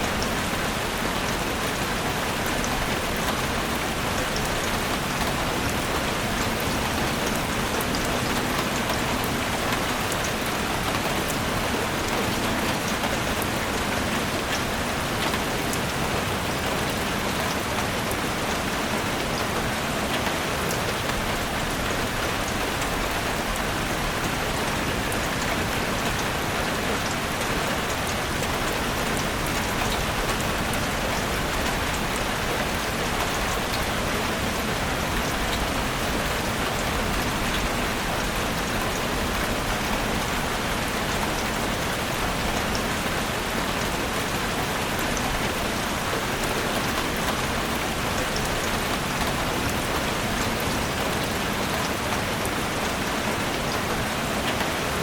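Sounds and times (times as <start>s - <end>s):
rain falling in a forest: 0.0s - 55.0s.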